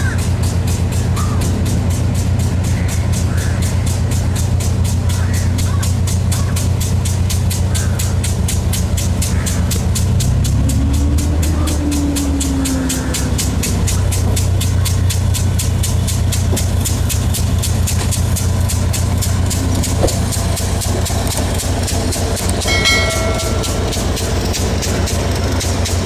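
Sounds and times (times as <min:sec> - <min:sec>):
diesel train engine drone: 0:00.0 - 0:26.0
wheels ticking on rails: 0:00.0 - 0:26.0.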